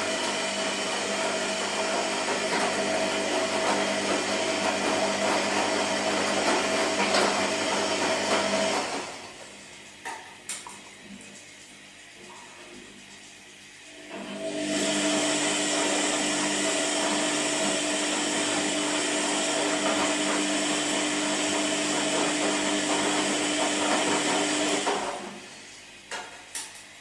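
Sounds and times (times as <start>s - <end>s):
washing machine motor whirring: 0.0s - 27.0s.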